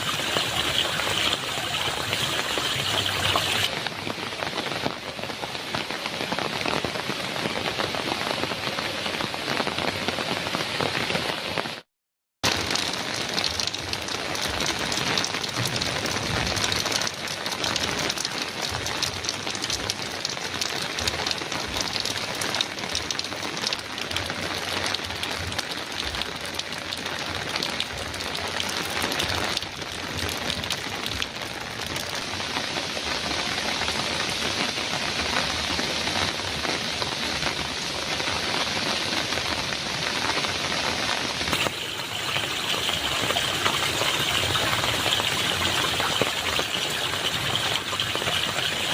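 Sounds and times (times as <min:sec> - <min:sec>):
heavy rain on a metal roof: 0:00.0 - 0:48.9.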